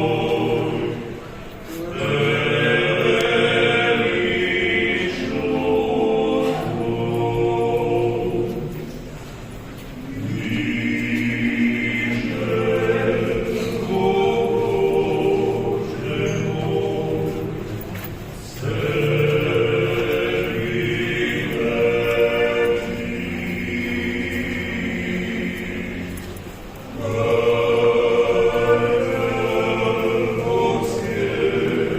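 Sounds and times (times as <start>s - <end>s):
choir singing unaccompanied: 0.0s - 31.9s.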